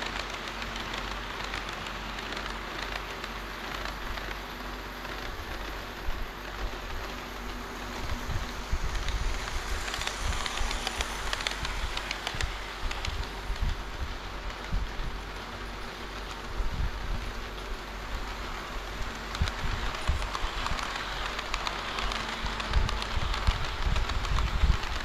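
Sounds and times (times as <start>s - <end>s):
model train rushing noise: 0.0s - 25.0s
wheels clicking over rail joints: 0.0s - 25.0s.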